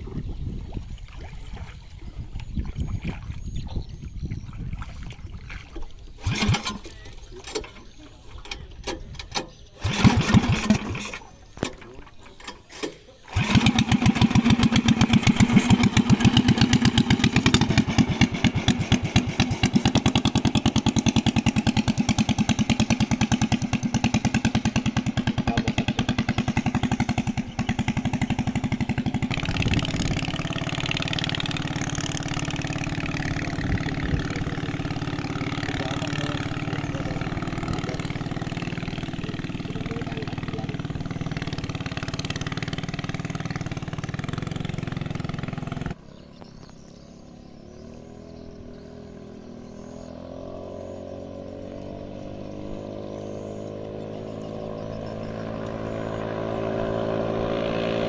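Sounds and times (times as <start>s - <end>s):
small petrol engine running: 6.2s - 58.0s.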